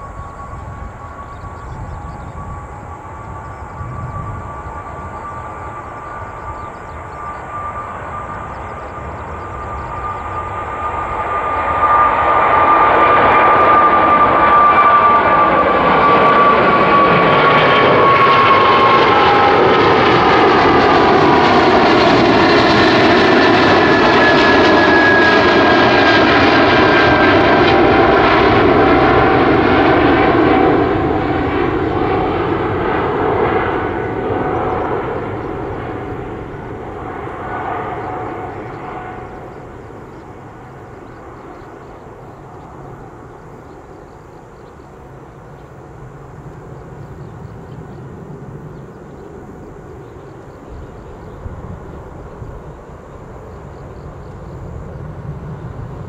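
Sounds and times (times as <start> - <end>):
jet airliner engines at takeoff: 0.0 - 56.0.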